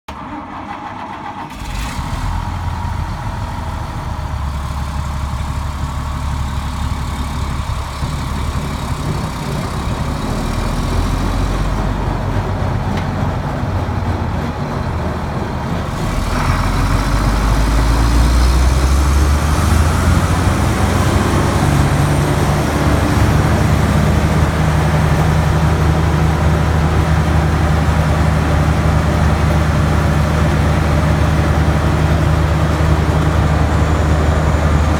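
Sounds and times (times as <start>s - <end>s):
diesel engine of drum chipper: 0.1s - 34.9s.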